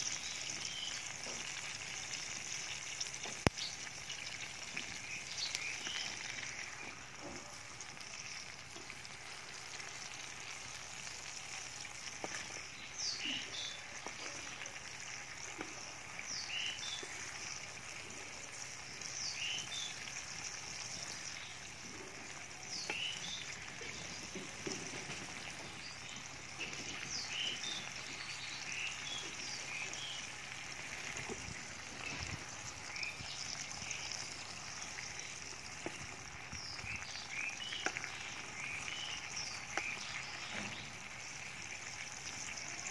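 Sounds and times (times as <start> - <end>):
gravy bubbling in a pan: 0.0 - 42.9.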